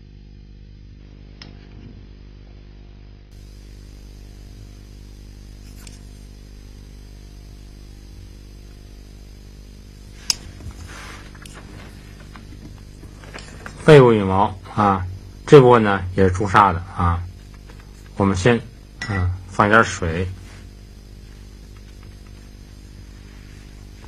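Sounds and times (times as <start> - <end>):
electrical hum and hiss: 0.0 - 24.0.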